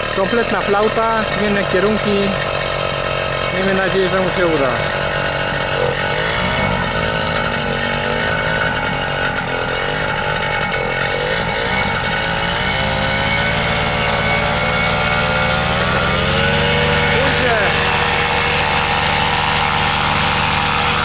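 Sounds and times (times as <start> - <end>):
paramotor two-stroke engine: 0.0 - 21.0.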